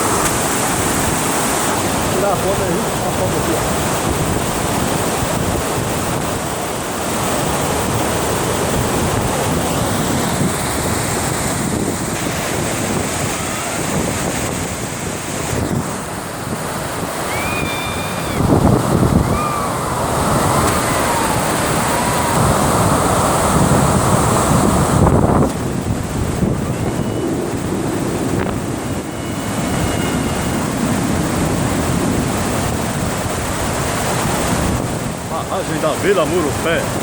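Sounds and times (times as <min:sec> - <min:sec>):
water rushing over a dam: 0:00.0 - 0:37.0
wind on microphone: 0:00.0 - 0:37.0.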